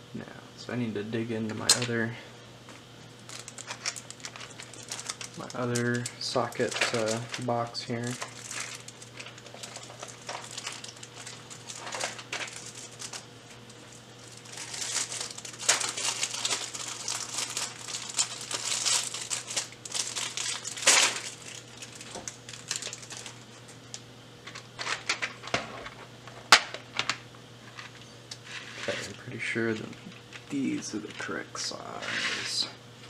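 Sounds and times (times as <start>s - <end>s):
plastic rustling and clatter: 3.3s - 23.7s, 24.4s - 31.4s.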